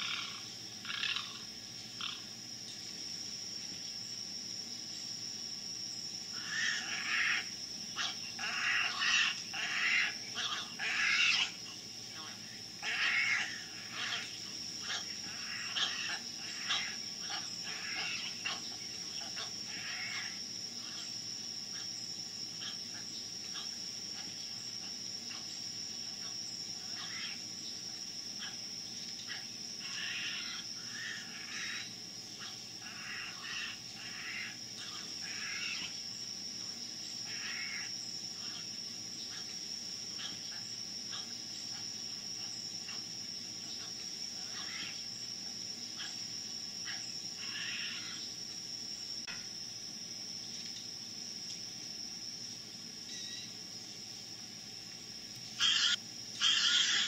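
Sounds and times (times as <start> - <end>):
birds chirping: 0.0 - 3.0, 6.0 - 36.2, 36.8 - 48.4, 55.4 - 57.0.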